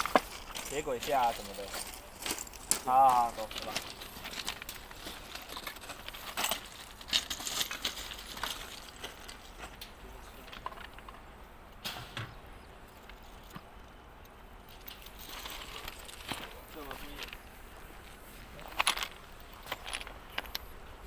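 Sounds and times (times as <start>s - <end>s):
footsteps crunching on track ballast: 0.0s - 11.3s, 14.9s - 21.0s.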